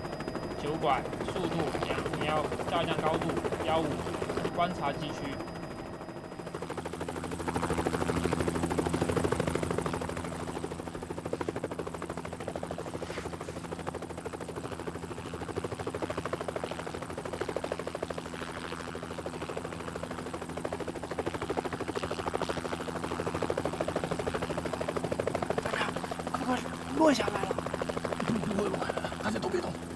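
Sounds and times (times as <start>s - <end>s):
helicopter engine drone: 0.0s - 29.9s
helicopter rotor chop: 0.0s - 29.9s.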